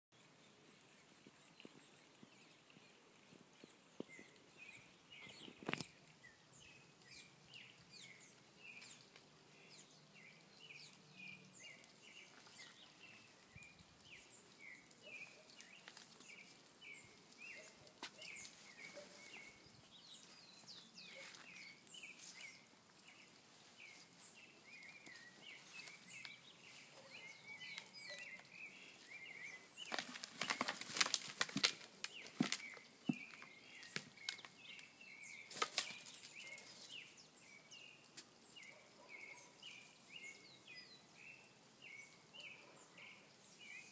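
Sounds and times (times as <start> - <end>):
small birds chirping: 0.1 - 43.9.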